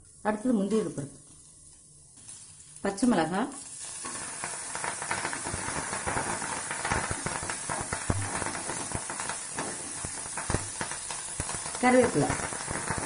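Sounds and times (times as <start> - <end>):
spices sizzling in hot oil: 0.0 - 13.0
small crackling pops: 0.7 - 13.0.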